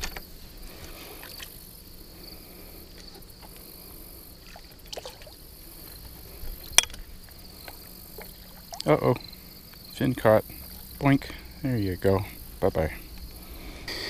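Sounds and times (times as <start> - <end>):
water lapping and splashing: 0.0 - 13.8
insects chirring: 0.0 - 14.0.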